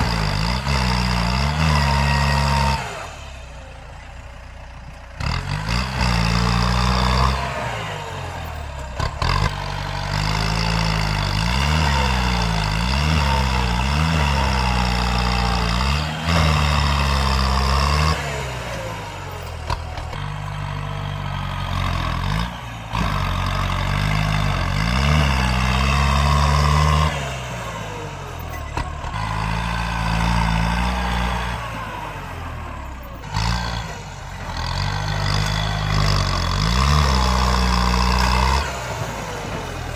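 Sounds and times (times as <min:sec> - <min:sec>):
tractor engine revving under load: 0:00.0 - 0:39.9.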